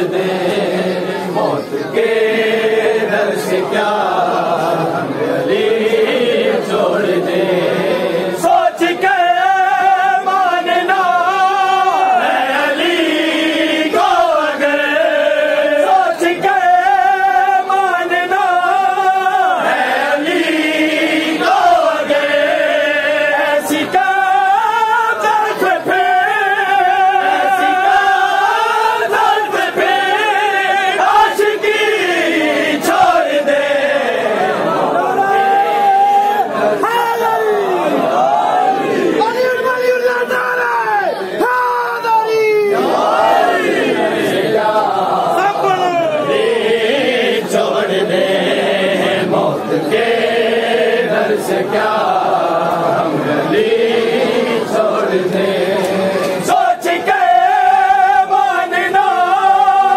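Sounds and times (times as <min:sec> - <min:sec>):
men chanting together: 0:00.0 - 0:39.2, 0:42.7 - 0:59.9.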